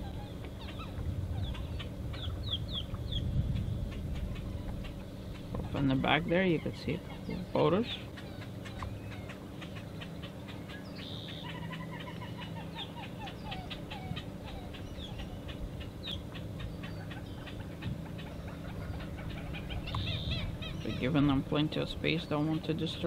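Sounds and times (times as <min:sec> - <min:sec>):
birds chattering and clucking: 0:00.0 - 0:23.0
low steady hum: 0:00.0 - 0:23.0.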